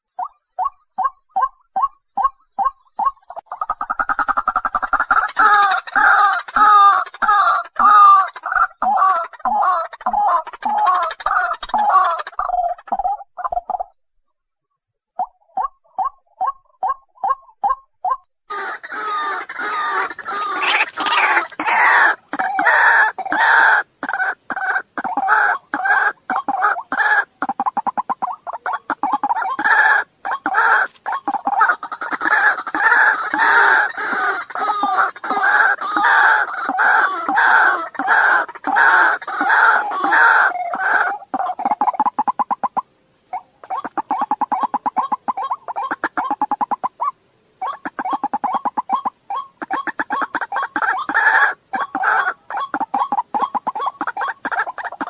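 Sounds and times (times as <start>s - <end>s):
waterhen harsh croaking calls: 0.6s - 13.5s, 18.5s - 55.0s.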